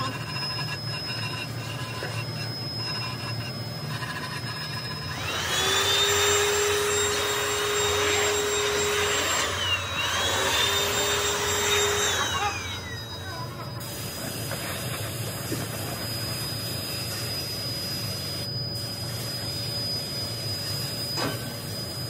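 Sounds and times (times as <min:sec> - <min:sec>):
electric air blower whining: 0:00.0 - 0:22.0.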